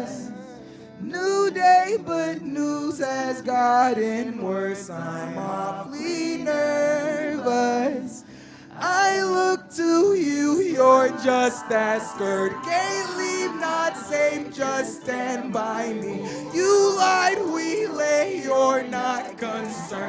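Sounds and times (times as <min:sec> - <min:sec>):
wordless melodic singing: 0:00.0 - 0:20.0.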